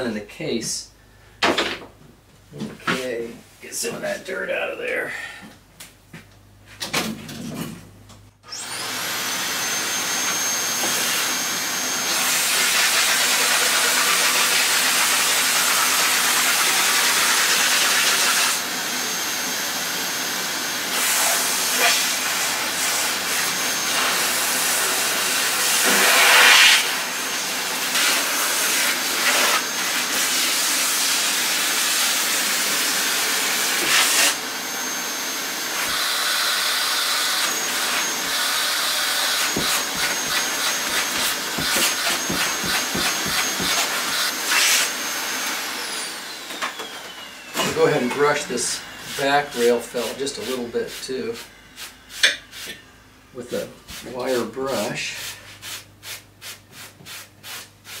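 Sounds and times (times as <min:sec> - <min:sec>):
vacuum cleaner motor whine: 0:08.4 - 0:55.1.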